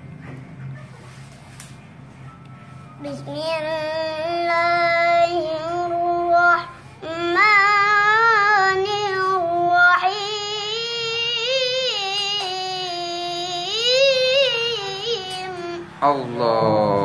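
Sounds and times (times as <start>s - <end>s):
boy chanting recitation: 3.0s - 17.0s.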